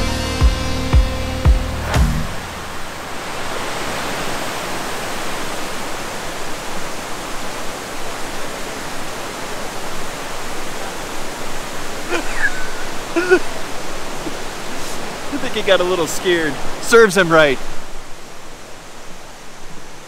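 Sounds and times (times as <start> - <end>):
creek rapids rushing: 0.8 - 20.0.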